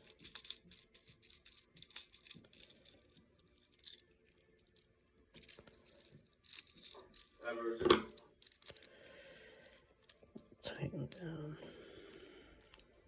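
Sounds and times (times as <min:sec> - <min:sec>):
clicks and rustles of handling wire: 0:00.0 - 0:11.4.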